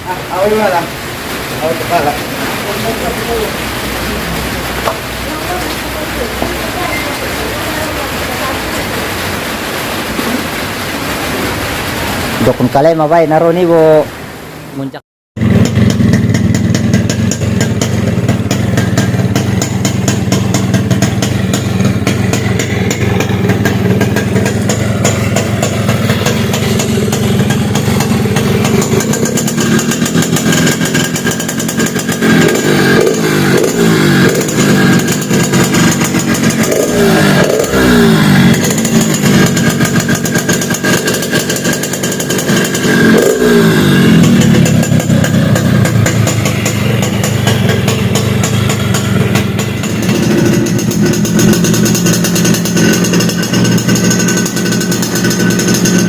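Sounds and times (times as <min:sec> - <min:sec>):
motorcycle engine idling and revving: 0:00.0 - 0:13.7, 0:15.4 - 0:56.0.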